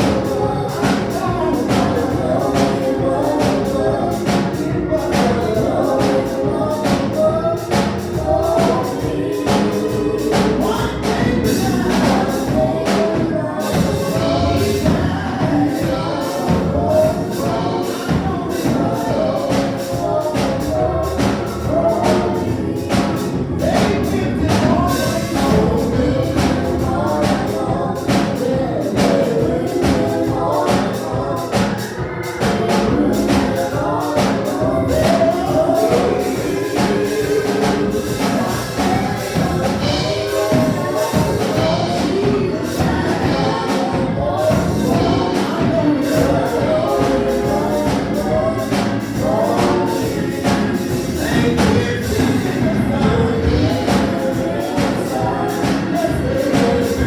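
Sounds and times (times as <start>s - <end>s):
band accompaniment with steady beat: 0.0s - 57.0s
group singing a gospel song: 0.0s - 57.0s.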